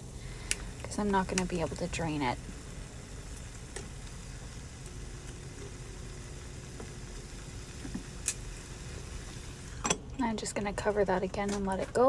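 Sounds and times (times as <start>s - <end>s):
meat frying faintly: 0.0s - 12.0s.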